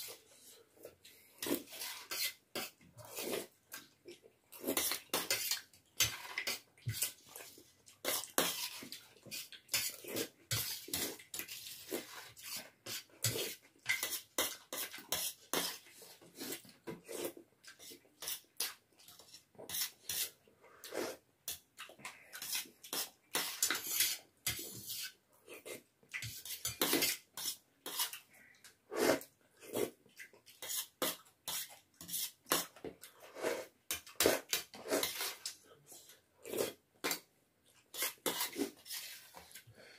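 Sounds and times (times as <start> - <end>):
slurping and chewing noodles: 0.0 - 39.9.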